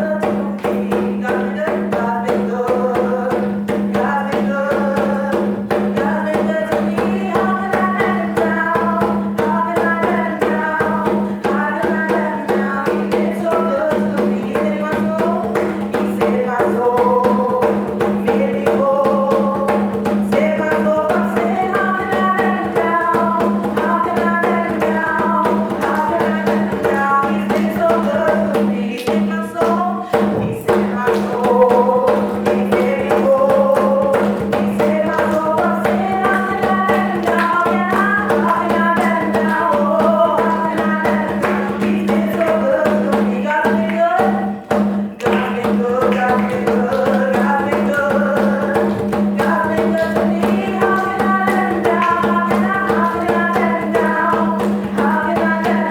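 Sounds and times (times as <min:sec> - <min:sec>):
percussion beat: 0:00.0 - 0:55.9
voices singing: 0:00.0 - 0:55.9.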